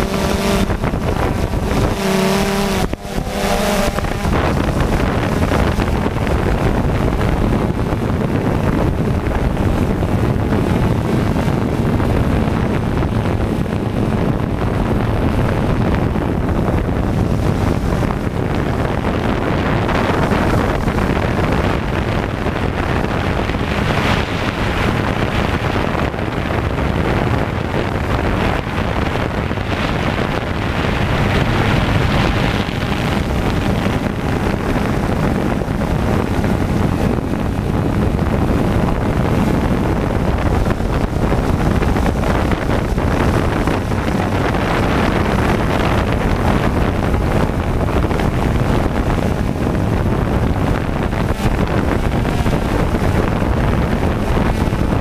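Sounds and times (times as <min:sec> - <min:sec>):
drone propellers whirring: 0:00.0 - 0:55.0
wind buffeting microphone: 0:00.0 - 0:55.0.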